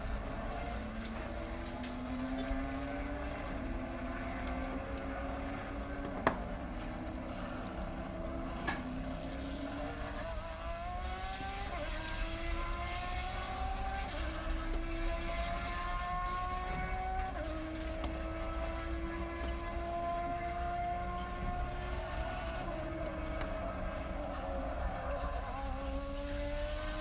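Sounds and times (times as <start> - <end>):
race car engine at speed: 0.0 - 27.0.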